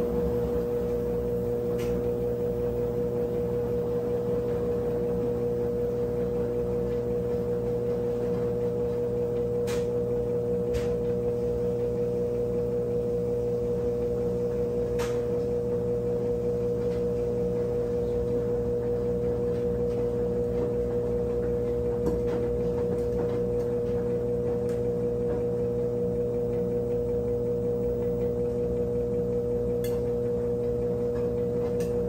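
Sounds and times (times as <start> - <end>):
washing machine humming: 0.0 - 32.0.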